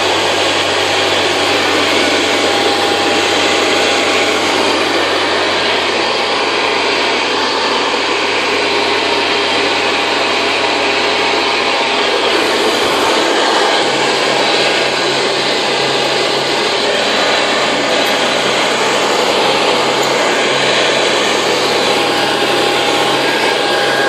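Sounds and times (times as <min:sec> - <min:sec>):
upright vacuum cleaner running: 0:00.0 - 0:24.0.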